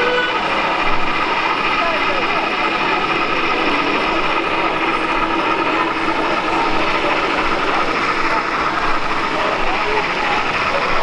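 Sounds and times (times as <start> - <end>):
crowd murmur: 0.0 - 11.0
model trains droning: 0.0 - 11.0
steady tones: 0.0 - 11.0.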